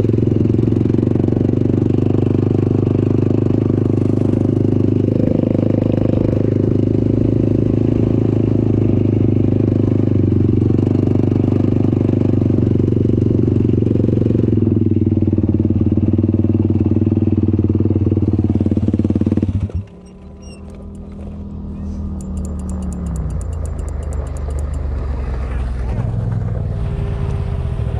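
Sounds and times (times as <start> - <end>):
vehicle engine running steadily: 0.0 - 27.9.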